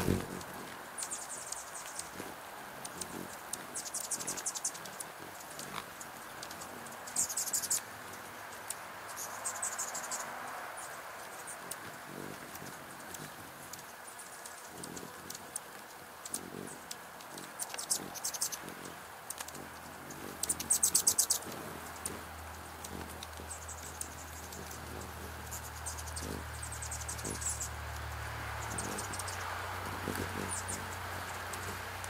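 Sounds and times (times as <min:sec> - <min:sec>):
hummingbirds twittering: 0:00.0 - 0:32.0.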